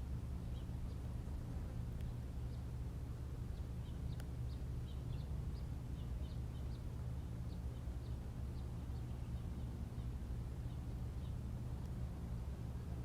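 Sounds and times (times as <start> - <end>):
low hum: 0.0 - 13.0
small birds chirping: 0.0 - 13.0.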